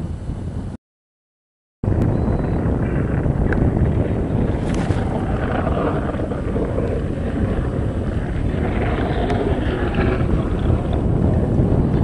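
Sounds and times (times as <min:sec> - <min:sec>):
wind buffeting microphone: 0:00.0 - 0:00.8, 0:01.8 - 0:12.0.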